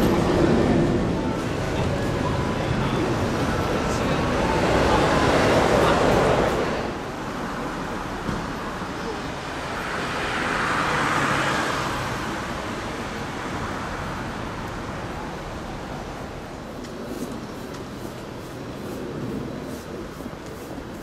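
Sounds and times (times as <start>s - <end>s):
cars going by: 0.0s - 20.0s.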